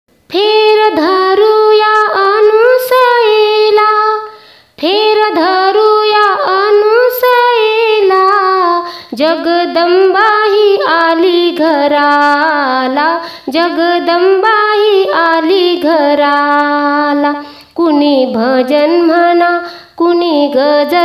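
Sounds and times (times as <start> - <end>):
woman singing unaccompanied: 0.3 - 21.0.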